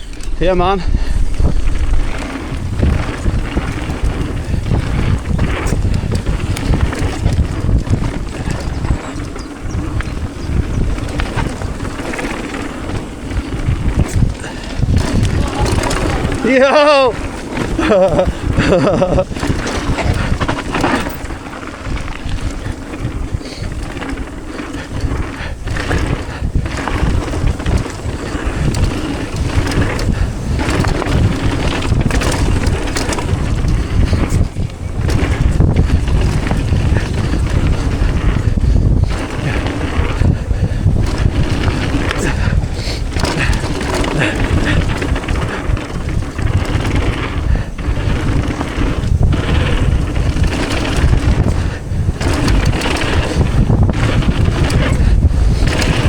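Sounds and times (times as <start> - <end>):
bike knocking and rattling: 0.0 - 56.0
bike tyre noise: 0.0 - 56.0
wind buffeting microphone: 0.0 - 56.0.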